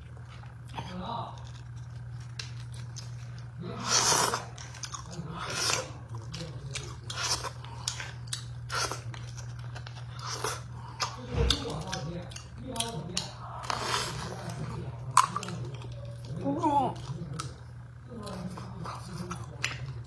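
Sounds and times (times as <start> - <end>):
loud chewing: 0.0 - 20.0.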